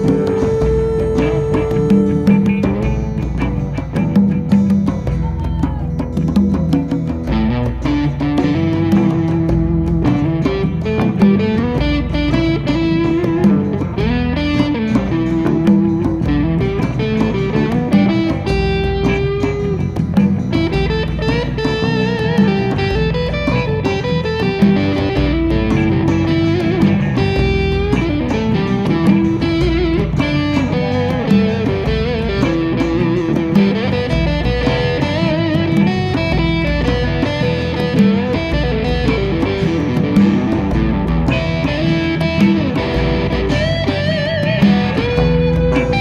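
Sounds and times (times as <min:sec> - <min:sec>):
acoustic guitar: 0:00.0 - 0:46.0
bass guitar: 0:00.0 - 0:46.0
electric guitar melody: 0:00.0 - 0:46.0.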